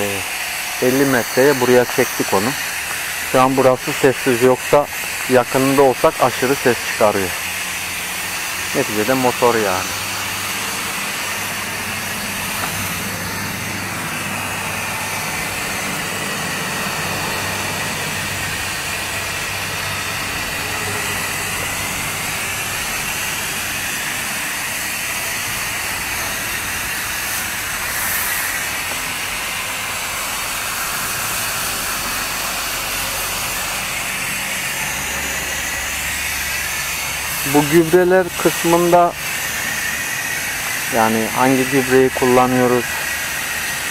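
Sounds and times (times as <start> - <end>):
hose spray nozzle hissing: 0.0 - 43.9.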